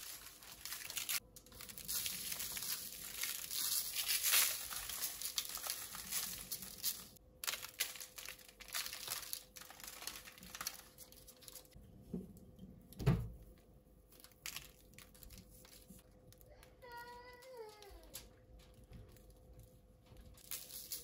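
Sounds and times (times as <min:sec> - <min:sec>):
baking paper crinkling: 0:00.0 - 0:11.8, 0:14.0 - 0:21.0.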